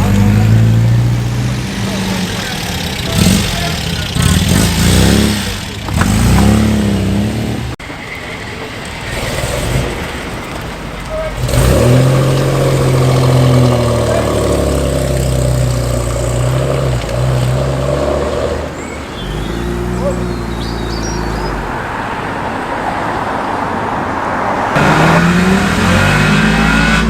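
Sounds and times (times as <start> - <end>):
car engines accelerating: 0.0 - 27.0.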